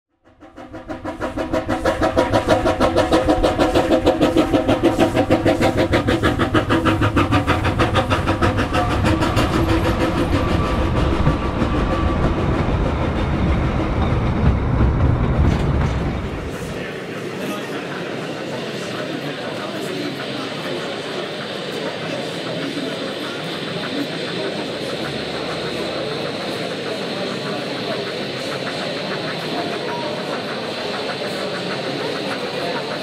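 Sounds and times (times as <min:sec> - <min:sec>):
steam locomotive exhaust beating: 0:00.2 - 0:33.0
train coaches rumbling and clattering: 0:00.3 - 0:33.0.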